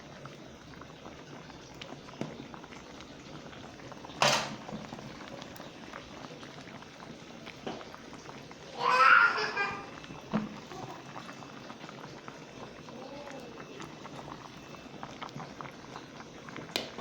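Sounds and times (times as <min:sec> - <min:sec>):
soup bubbling in a pot: 0:00.0 - 0:17.0.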